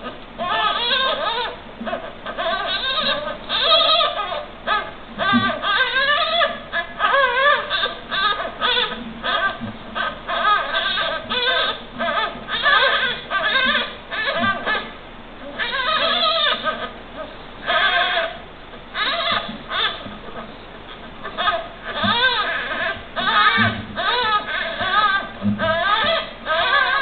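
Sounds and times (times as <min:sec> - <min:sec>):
kittens mewing: 0:00.0 - 0:27.0.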